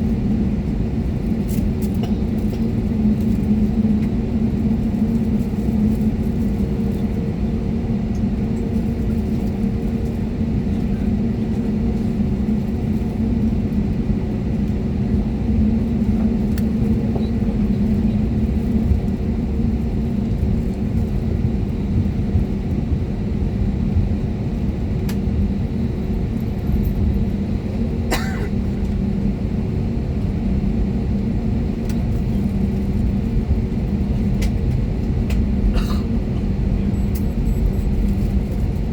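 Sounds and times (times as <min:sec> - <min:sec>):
jet engines humming in cabin: 0:00.0 - 0:38.9.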